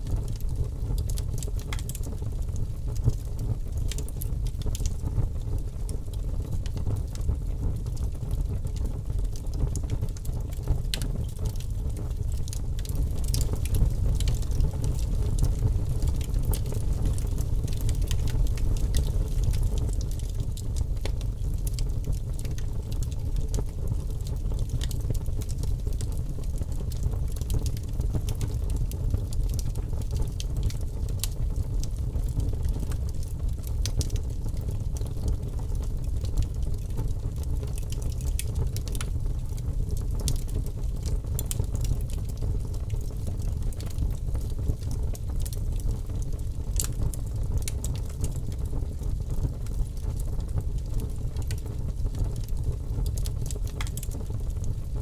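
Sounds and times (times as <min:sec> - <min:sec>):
bonfire rumbling: 0:00.0 - 0:55.0
fire crackling and popping: 0:00.0 - 0:55.0.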